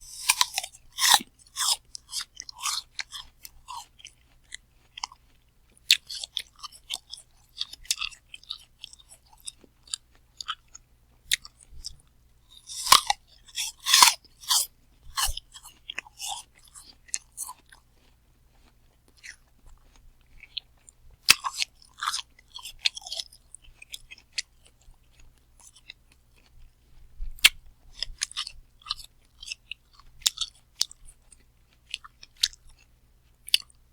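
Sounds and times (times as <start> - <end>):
crunchy apple bites: 0.0 - 33.9
quiet chewing: 0.0 - 33.9.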